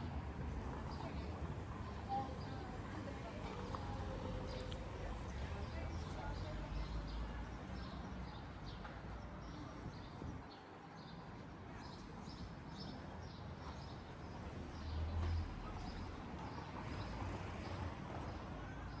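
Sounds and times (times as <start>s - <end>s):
busy street hum: 0.0s - 19.0s.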